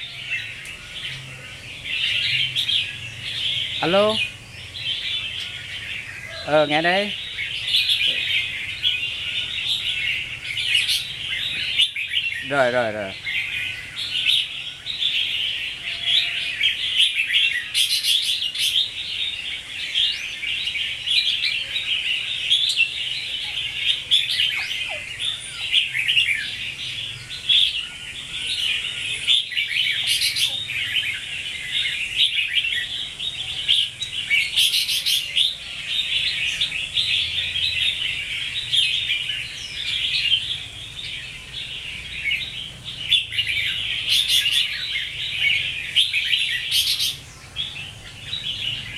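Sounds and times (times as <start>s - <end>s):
birds chirping and singing: 0.0s - 48.9s.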